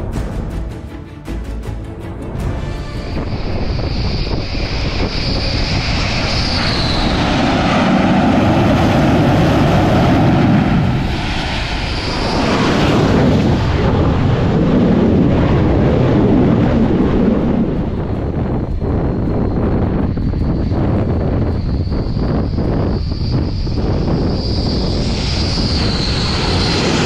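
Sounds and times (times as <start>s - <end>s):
jet engines running loud: 2.3s - 27.0s
high whine dropping in pitch: 2.4s - 27.0s.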